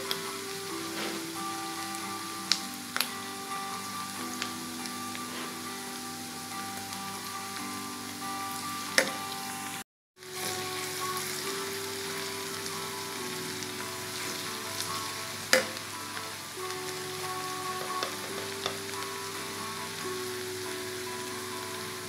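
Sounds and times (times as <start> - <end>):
background music: 0.0 - 22.0
food frying in oil: 0.0 - 22.0.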